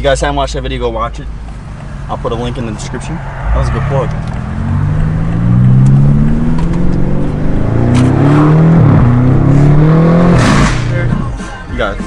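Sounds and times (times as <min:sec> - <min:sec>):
car engine accelerating hard: 0:01.2 - 0:11.5.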